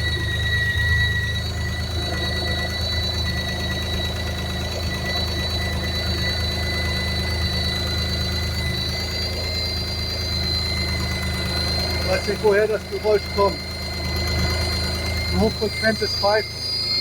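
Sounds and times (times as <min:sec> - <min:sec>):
car engine idling: 0:00.0 - 0:17.0
high-pitched whistle: 0:00.0 - 0:17.0.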